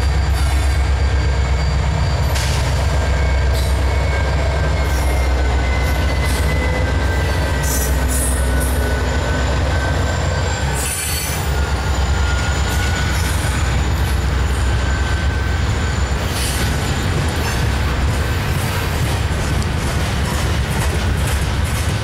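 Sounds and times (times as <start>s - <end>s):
high wheel squeal: 0.0s - 19.0s
coal train passing: 0.0s - 22.0s.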